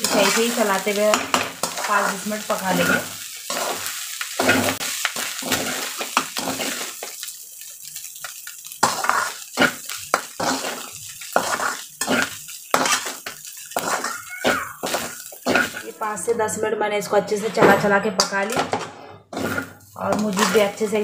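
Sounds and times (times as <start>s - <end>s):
metal spatula scraping pan: 0.0s - 7.0s, 8.8s - 16.0s, 17.3s - 21.0s
rice sizzling: 0.0s - 16.3s, 18.2s - 21.0s.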